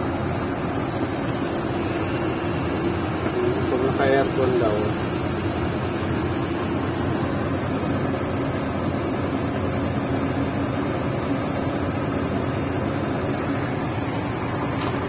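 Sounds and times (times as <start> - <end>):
air conditioning hum: 0.0 - 15.0
diesel engine idling: 0.0 - 15.0.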